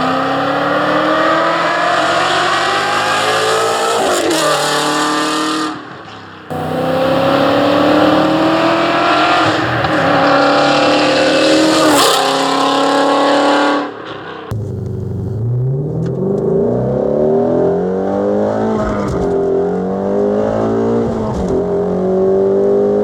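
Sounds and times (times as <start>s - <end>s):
car engine accelerating hard: 0.0s - 5.9s, 6.5s - 23.0s.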